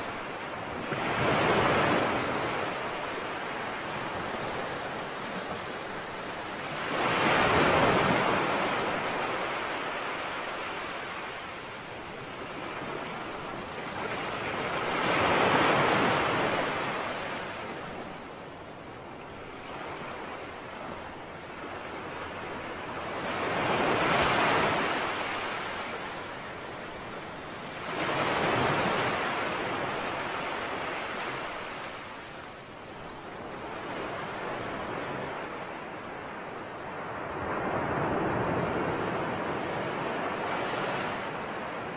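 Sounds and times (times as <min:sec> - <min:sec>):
sea waves surging: 0:00.0 - 0:20.3, 0:20.9 - 0:41.9.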